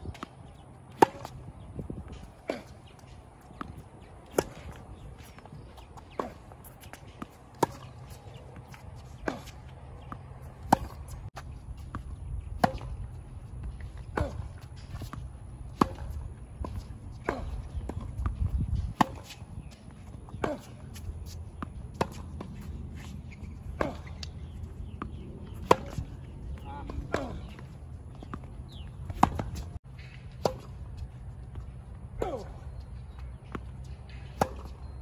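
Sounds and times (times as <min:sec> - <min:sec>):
racket hitting tennis ball: 0:00.1 - 0:32.6, 0:33.5 - 0:34.8.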